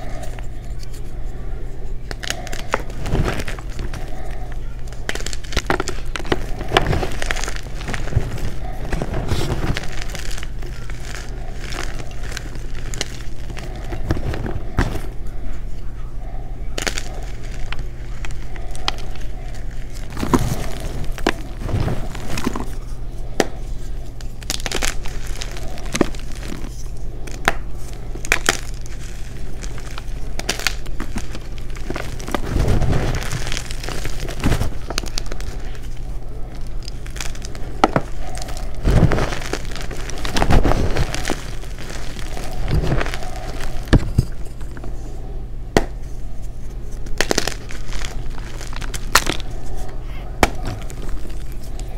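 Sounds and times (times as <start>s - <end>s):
steady low hum: 0.0s - 51.9s
chalk crunching and crumbling: 2.0s - 45.0s, 46.0s - 51.9s.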